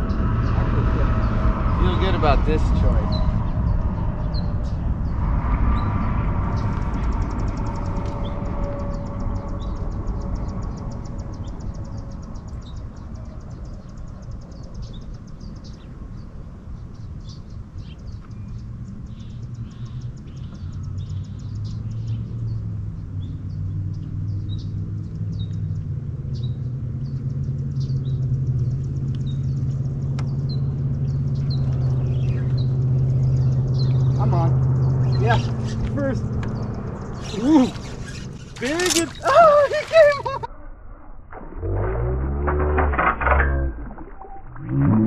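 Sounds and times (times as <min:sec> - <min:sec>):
small birds chirping: 0:00.0 - 0:40.5
distant engine hum: 0:00.0 - 0:45.0.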